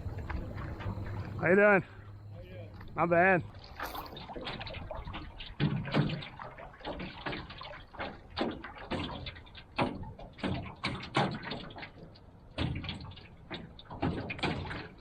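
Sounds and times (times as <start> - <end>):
water lapping against a boat: 0.0 - 15.0.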